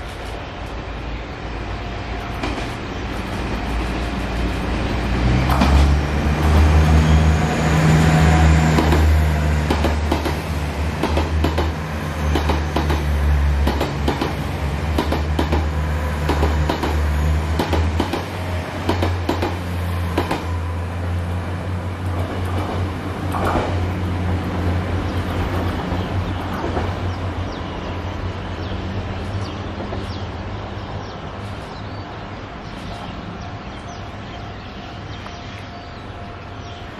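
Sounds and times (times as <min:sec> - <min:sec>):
diesel train engine drone: 0:00.0 - 0:36.9.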